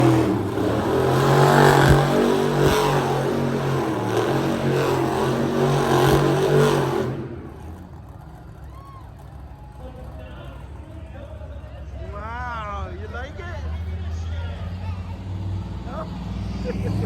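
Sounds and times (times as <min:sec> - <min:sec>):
monster truck engine revving: 0:00.0 - 0:12.0, 0:13.0 - 0:17.0.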